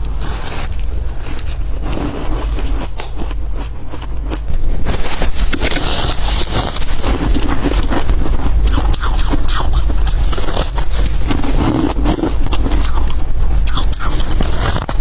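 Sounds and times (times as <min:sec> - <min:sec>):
ice crunching: 0:00.0 - 0:15.0.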